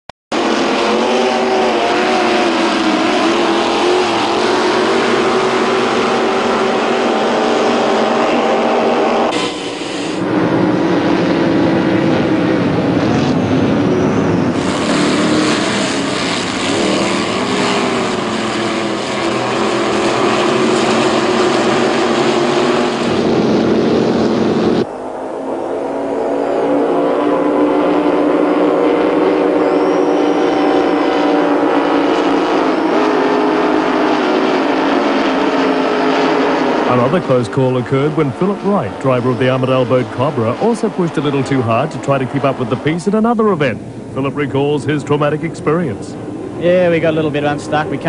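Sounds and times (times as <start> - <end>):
powerboat engines running hard: 0.5 - 48.0.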